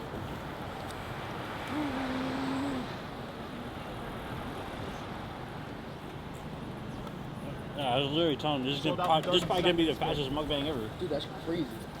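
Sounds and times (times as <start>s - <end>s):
city street traffic noise: 0.0s - 12.0s.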